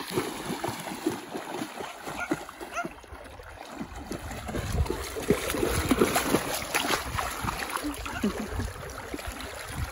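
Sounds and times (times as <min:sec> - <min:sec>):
dog wading through water: 0:00.0 - 0:09.9.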